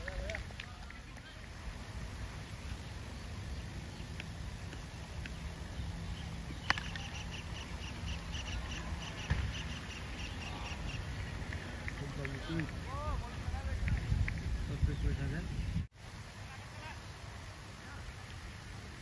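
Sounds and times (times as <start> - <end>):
low wind rumble: 0.0 - 16.4.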